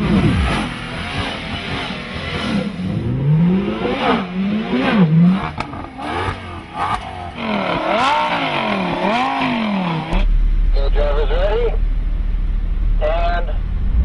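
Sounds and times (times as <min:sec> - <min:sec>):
car engines accelerating hard: 0:00.0 - 0:11.8.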